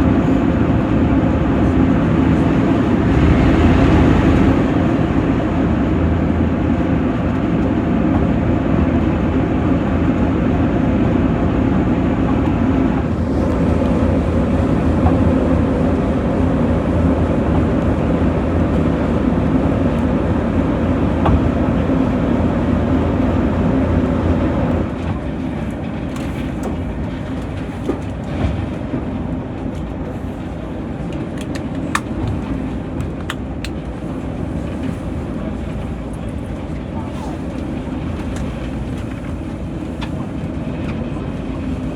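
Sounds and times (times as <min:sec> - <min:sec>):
diesel engine drone: 0:00.0 - 0:41.9
rail rumble: 0:00.0 - 0:41.9.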